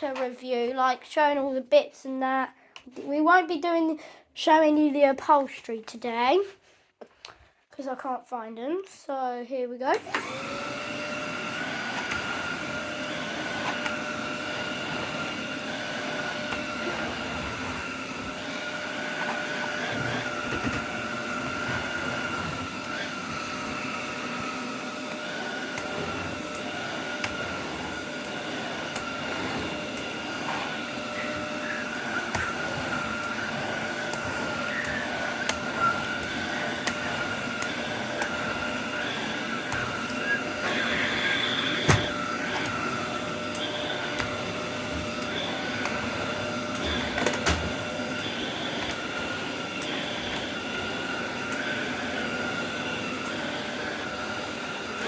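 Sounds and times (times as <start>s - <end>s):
vacuum cleaner whining: 9.8s - 55.0s.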